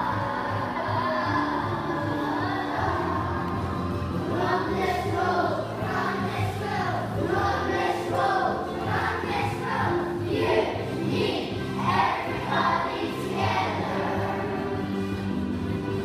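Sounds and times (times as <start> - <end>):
young children singing: 0.0 - 15.4
recorded music accompaniment: 0.0 - 16.0.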